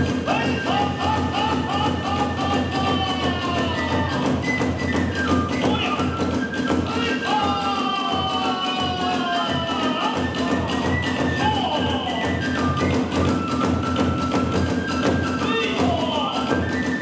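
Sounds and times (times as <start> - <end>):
bamboo flute: 0.0 - 17.0
drum beat: 0.0 - 17.0.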